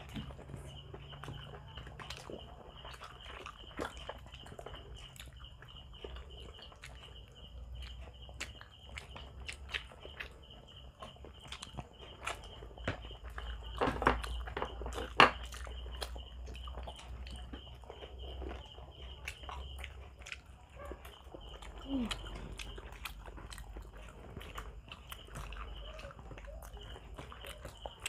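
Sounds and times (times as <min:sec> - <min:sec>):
people biting and chewing: 0:00.0 - 0:28.0.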